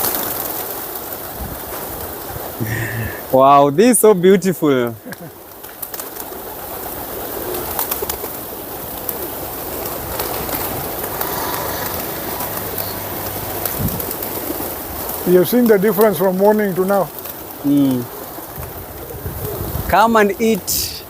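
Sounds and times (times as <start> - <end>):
birds cooing: 0.0 - 3.3, 5.2 - 19.8
flock of birds din: 0.0 - 3.9, 4.7 - 21.0.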